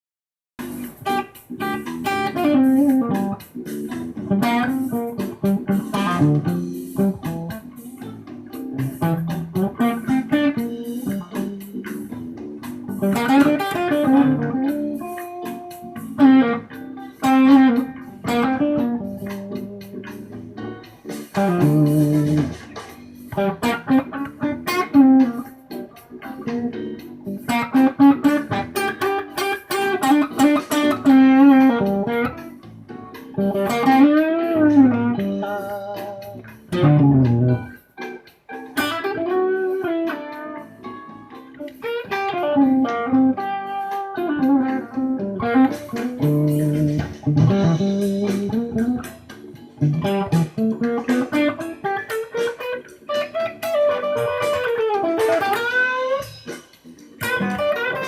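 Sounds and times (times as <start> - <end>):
fuzz electric guitar: 0.6 - 58.0.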